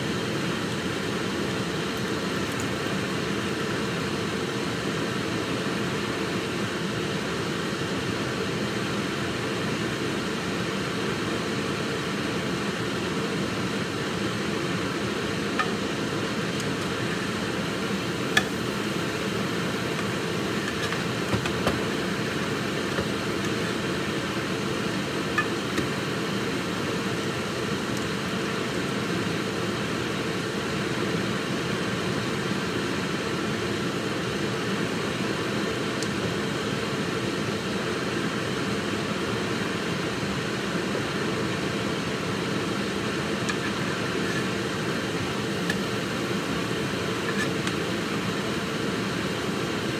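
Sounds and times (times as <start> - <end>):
mechanical hum and hiss: 0.0 - 49.9.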